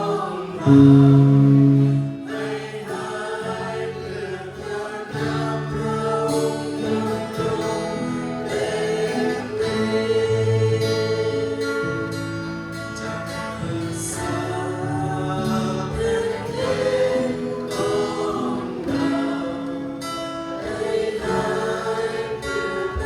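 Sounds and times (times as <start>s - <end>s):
guitar accompaniment: 0.0s - 23.0s
voices singing together: 0.0s - 23.0s.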